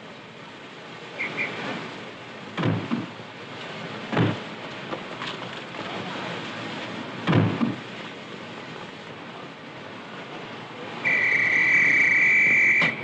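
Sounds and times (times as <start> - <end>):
railway platform noise: 0.0 - 13.0.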